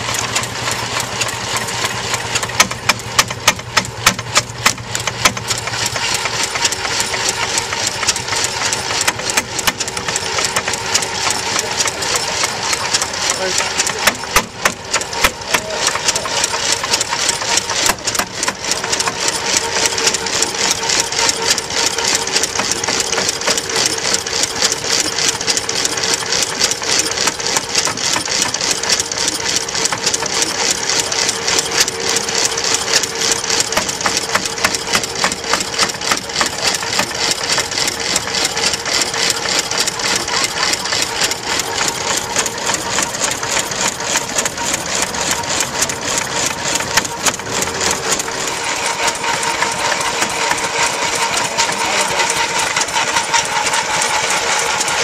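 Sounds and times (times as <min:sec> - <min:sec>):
stationary engine clattering: 0:00.0 - 0:55.0.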